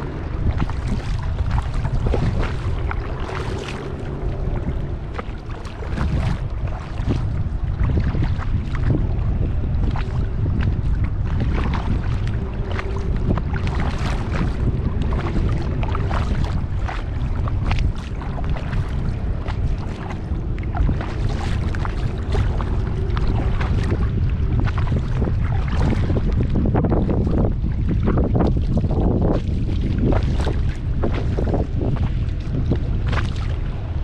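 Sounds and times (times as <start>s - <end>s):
kayak paddle splashing water: 0.0s - 34.0s
wind rumble on microphone: 0.0s - 34.0s.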